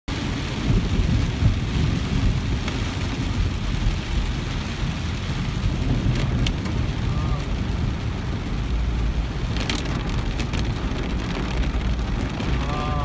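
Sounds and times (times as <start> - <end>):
deep continuous rumble: 0.1 - 13.0
heavy rain on car windscreen: 0.1 - 13.0.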